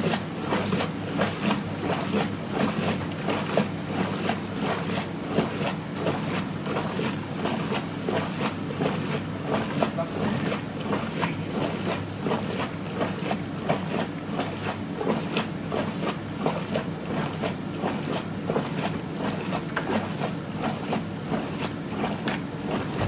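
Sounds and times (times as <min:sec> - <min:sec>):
washing machine motor hum: 0:00.0 - 0:23.0
water churning and sloshing: 0:00.0 - 0:23.0.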